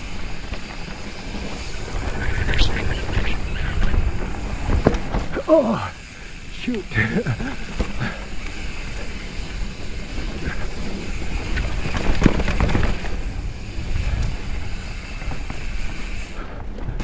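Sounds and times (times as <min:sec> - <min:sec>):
bike rattles and knocks: 0:00.0 - 0:17.0
tyres rumbling on dirt: 0:00.0 - 0:17.0
wind rushing over microphone: 0:00.0 - 0:17.0.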